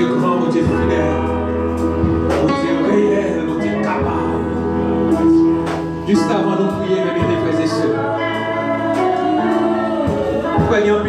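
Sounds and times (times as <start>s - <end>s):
electric bass: 0.0s - 11.0s
guitar: 0.0s - 11.0s
voices singing: 0.0s - 11.0s.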